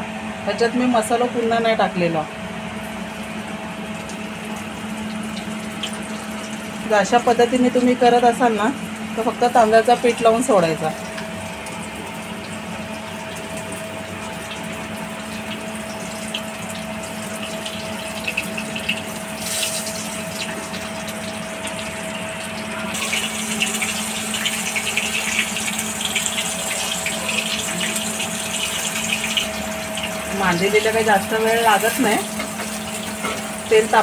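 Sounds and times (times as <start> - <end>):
fish sizzling in hot oil: 2.7 - 34.0.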